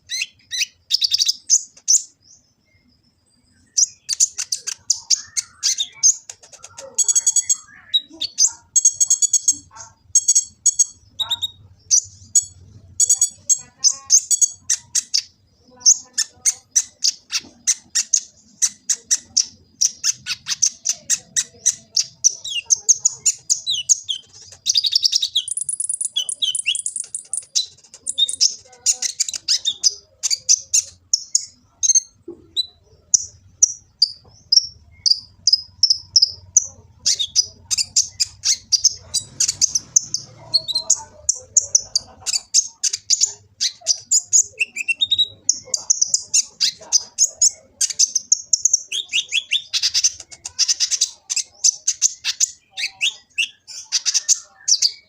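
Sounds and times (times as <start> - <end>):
bird singing high chirps and trills: 0.0 - 55.0.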